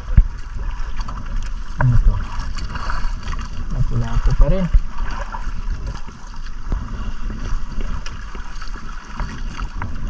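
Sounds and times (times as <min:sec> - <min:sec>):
water lapping at boat: 0:00.0 - 0:10.0
wind buffeting microphone: 0:00.0 - 0:10.0.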